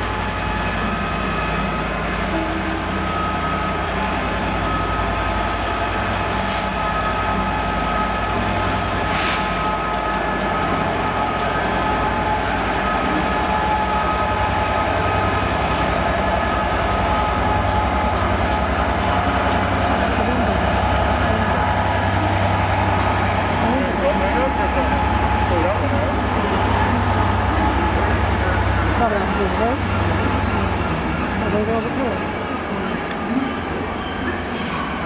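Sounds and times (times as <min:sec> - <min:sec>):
train running with low rumble: 0:00.0 - 0:35.0.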